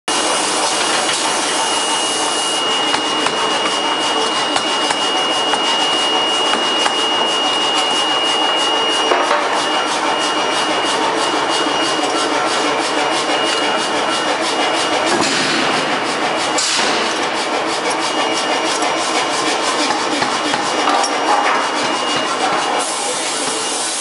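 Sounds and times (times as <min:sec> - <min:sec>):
high-pitched machine whine: 0:00.1 - 0:24.0.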